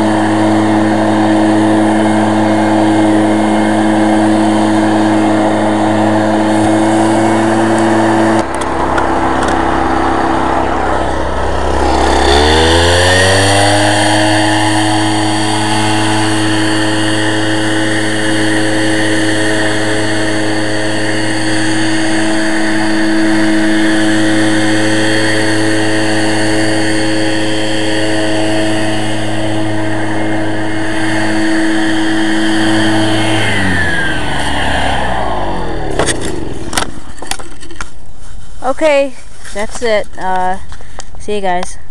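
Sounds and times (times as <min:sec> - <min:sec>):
leaf blower engine revving: 0:00.0 - 0:41.7.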